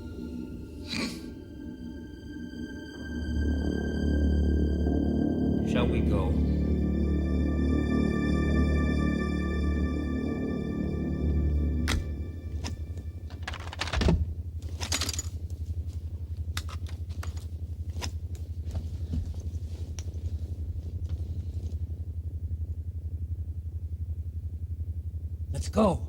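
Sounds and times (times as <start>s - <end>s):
low pulsing electronic hum: 0.0s - 25.7s.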